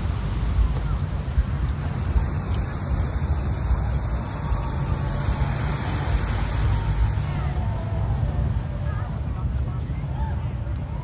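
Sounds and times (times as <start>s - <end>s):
faint voices: 0.0s - 11.0s
low outdoor rumble: 0.0s - 11.0s.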